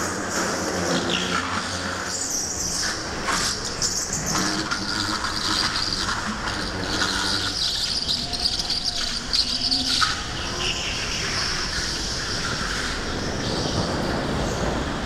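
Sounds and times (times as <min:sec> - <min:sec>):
go-kart motor droning: 0:00.0 - 0:15.0.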